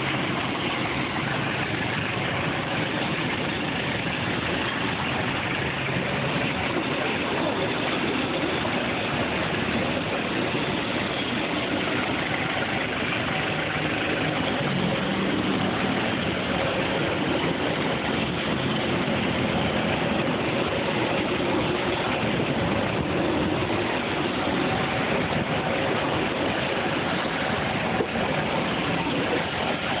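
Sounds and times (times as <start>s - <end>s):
train coaches rolling past: 0.0s - 30.0s.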